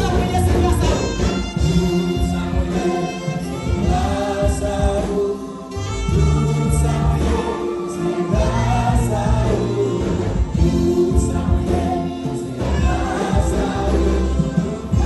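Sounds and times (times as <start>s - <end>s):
choir singing gospel: 0.0s - 15.0s.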